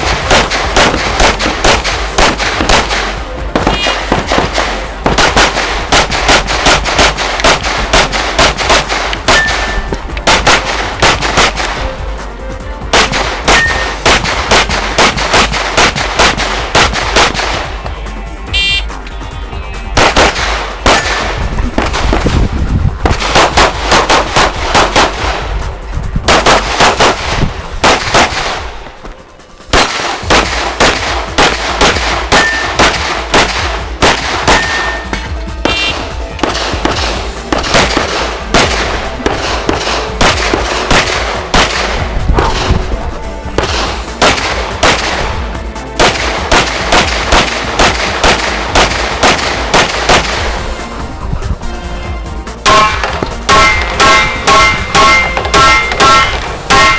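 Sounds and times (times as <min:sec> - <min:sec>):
rapid pistol shots: 0:00.0 - 0:12.0, 0:12.9 - 0:17.8, 0:20.0 - 0:25.7, 0:26.3 - 0:29.0, 0:29.6 - 0:42.8, 0:43.6 - 0:50.7, 0:52.7 - 0:56.9
background music: 0:00.0 - 0:56.9.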